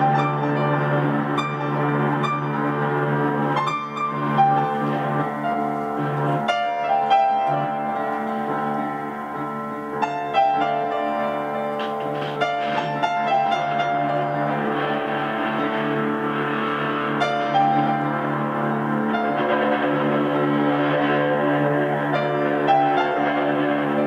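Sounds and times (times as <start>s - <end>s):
piano and guitar duet: 0.0s - 24.0s.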